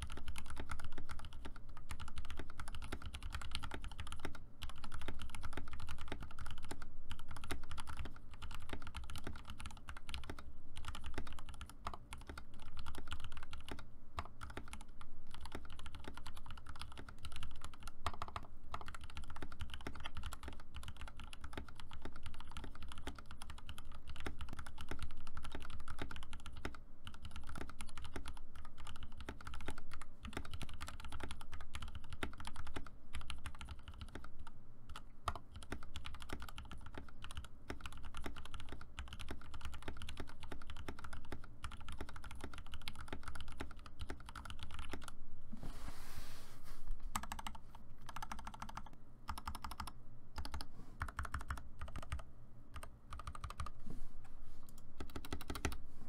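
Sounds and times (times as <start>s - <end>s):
mechanical keyboard typing: 0.0s - 45.2s, 47.1s - 53.8s, 54.7s - 55.8s.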